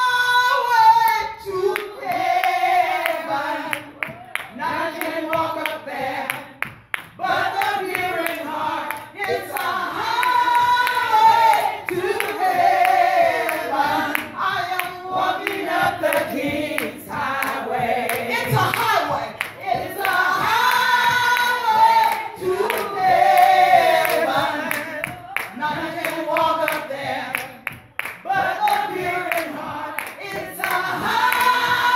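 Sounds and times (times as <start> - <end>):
woman singing gospel song: 0.0 - 31.9
hands clapping: 1.0 - 31.9.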